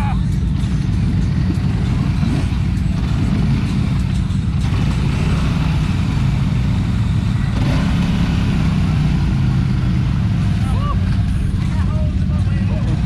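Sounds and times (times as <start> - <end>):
atv engine running under load: 0.0 - 13.0.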